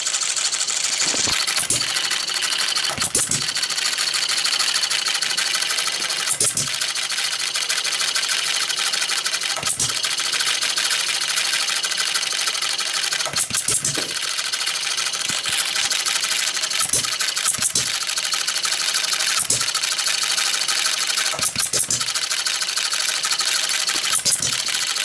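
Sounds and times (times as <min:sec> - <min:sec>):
model engine clattering: 0:00.0 - 0:25.0.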